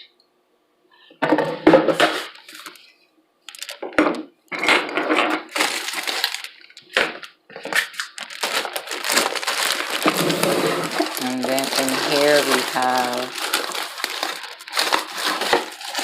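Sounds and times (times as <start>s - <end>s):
plastic clattering and rustling: 1.1s - 2.9s, 3.5s - 16.0s.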